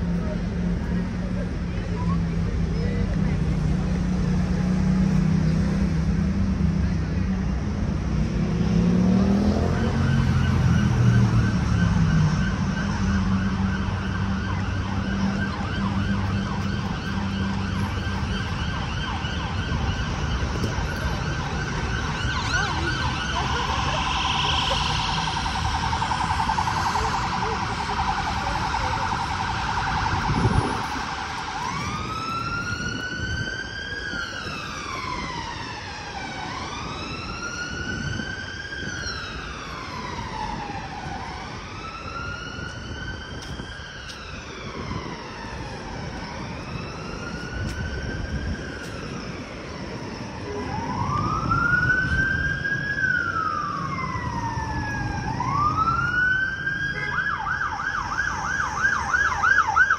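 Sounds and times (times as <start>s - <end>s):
emergency vehicle siren: 0.0s - 59.9s
street traffic noise: 0.0s - 59.9s.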